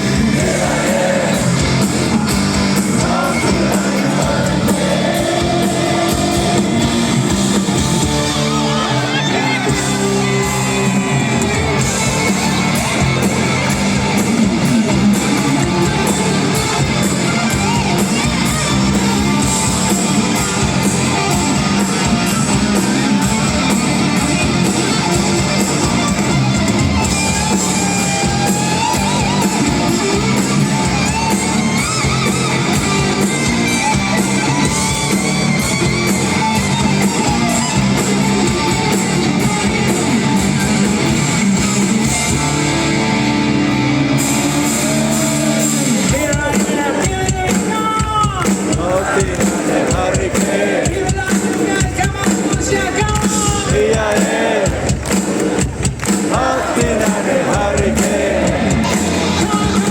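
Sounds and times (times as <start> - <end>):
hard rock band playing: 0.0 - 59.9.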